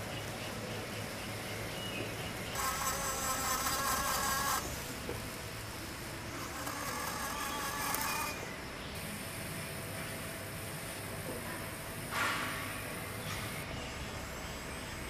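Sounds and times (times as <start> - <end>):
rotary tool high whine: 2.3 - 15.0.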